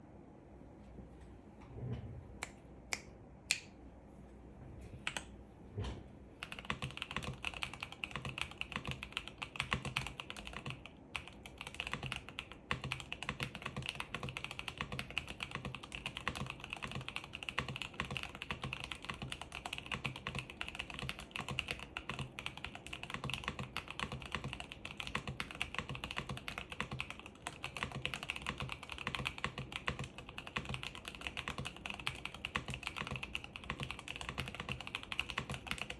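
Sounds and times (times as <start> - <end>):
typing on mechanical keyboard: 6.4 - 35.9.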